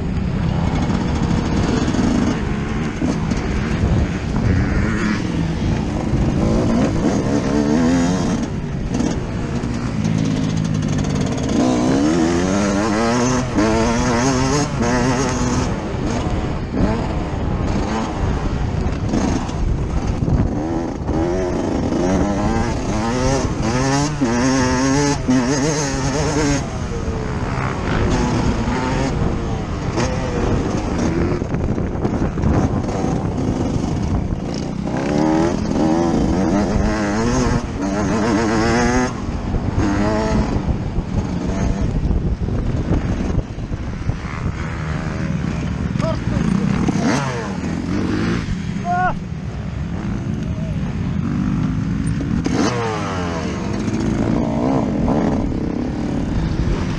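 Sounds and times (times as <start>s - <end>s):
two-stroke motorcycle engine revving: 0.0s - 56.9s.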